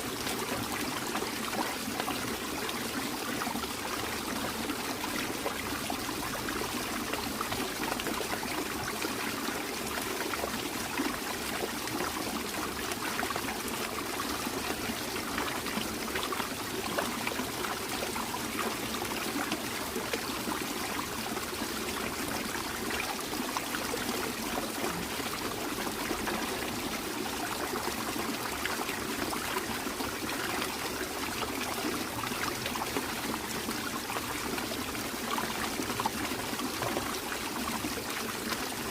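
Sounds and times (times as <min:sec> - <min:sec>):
water trickling over small waterfall: 0:00.0 - 0:38.9.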